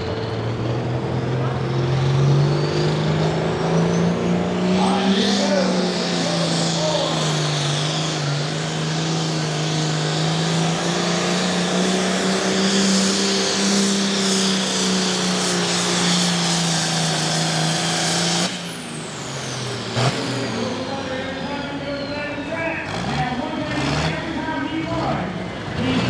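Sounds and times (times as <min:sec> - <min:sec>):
tractor diesel engine droning: 0:00.0 - 0:26.0.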